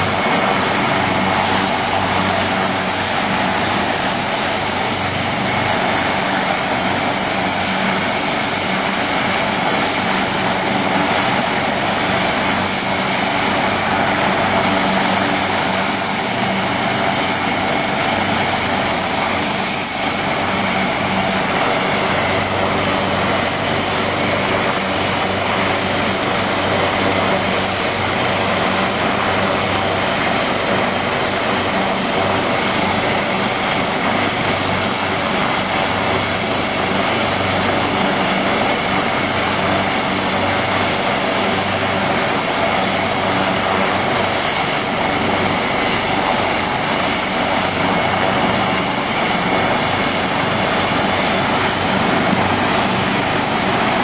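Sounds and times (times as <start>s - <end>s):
helicopter running: 0.0s - 54.0s
high turbine whine: 0.0s - 54.0s.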